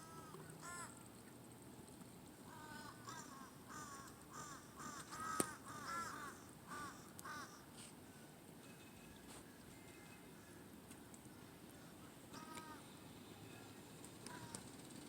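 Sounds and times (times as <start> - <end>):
bird calling faintly: 2.4 - 15.0.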